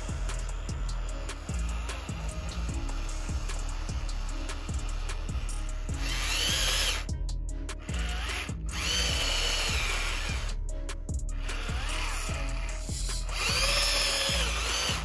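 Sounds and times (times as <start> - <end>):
electric motor whining: 0.0 - 7.2, 7.8 - 10.6, 11.3 - 15.0
background music with steady beat: 0.0 - 15.0.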